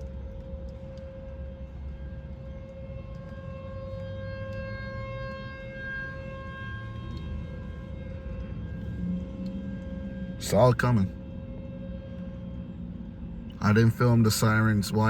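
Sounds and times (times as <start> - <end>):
warning siren: 0.0 - 15.0.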